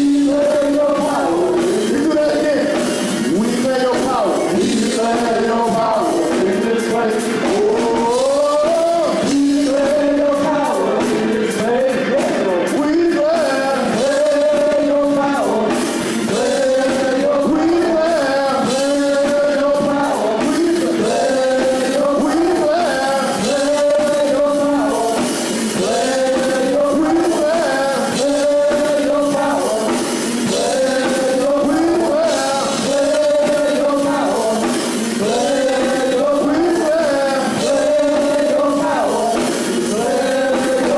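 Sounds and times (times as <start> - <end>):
worship singing: 0.0 - 40.9.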